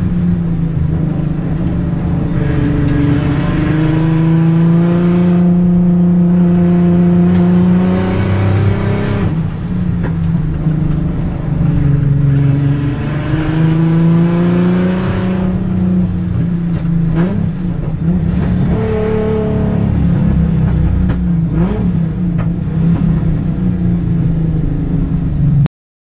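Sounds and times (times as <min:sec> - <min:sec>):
race engine accelerating: 0:00.0 - 0:25.7.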